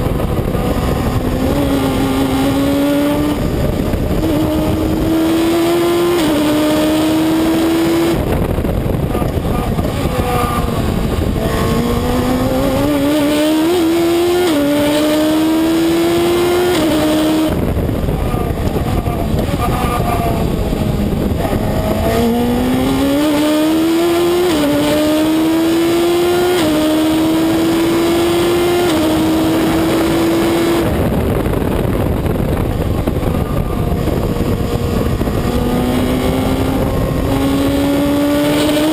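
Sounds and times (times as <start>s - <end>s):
race car engine revving: 0.0s - 38.9s
wind and road noise: 0.0s - 38.9s.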